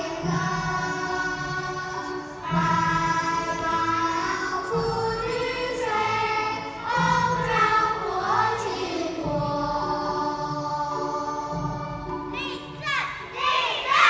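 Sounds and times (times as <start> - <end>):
group of voices singing: 0.0 - 12.3
music: 0.0 - 14.0.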